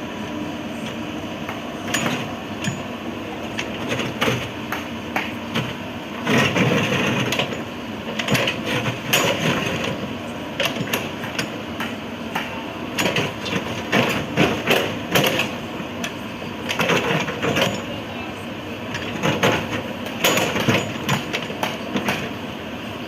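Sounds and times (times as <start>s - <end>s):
excavator machine noise: 0.0s - 23.0s
excavator knocks and clanks: 0.8s - 22.6s.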